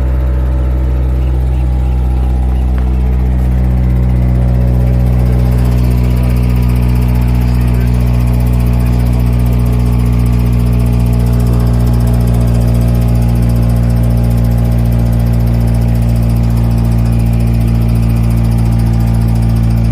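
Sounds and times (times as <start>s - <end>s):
compost grinder droning: 0.0s - 19.9s.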